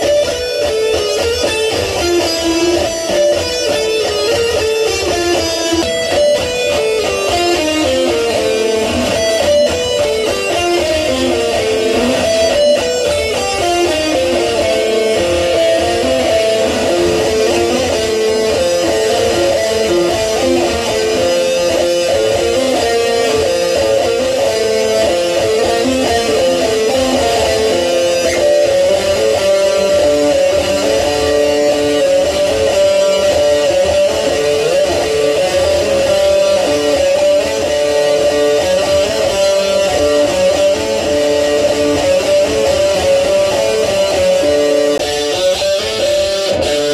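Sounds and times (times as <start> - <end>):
electric guitar fast riff: 0.0 - 46.9.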